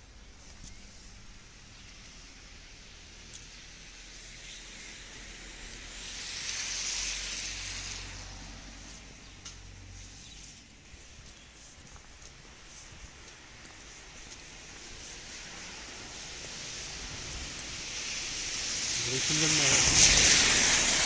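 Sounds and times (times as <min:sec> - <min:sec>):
rush of spray: 0:00.4 - 0:21.0
heavy rain hissing: 0:01.2 - 0:11.0, 0:11.6 - 0:21.0.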